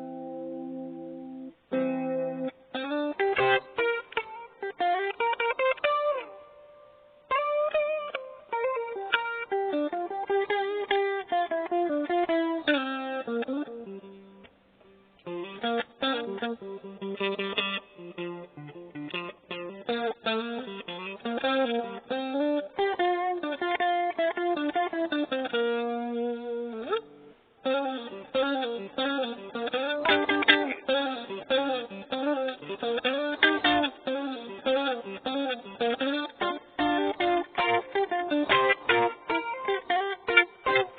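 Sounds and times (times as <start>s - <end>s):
solo guitar melody: 0.0s - 40.9s.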